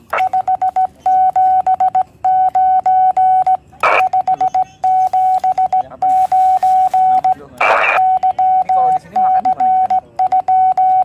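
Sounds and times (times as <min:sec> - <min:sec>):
morse code beeps: 0:00.0 - 0:11.0.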